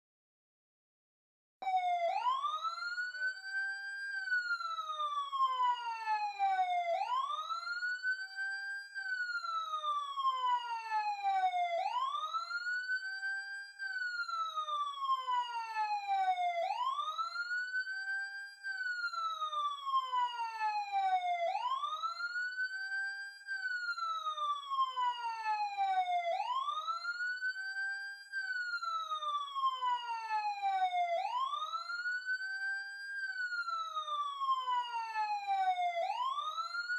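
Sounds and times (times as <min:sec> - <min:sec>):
ambulance siren wailing: 0:01.6 - 0:36.9.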